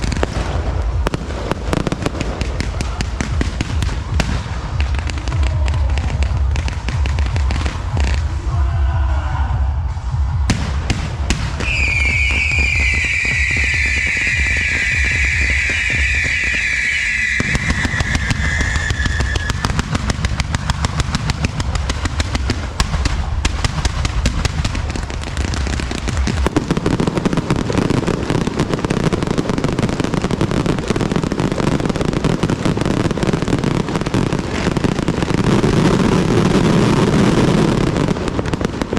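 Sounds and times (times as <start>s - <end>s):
fireworks crackling bursts: 0.0s - 8.6s, 9.9s - 38.9s.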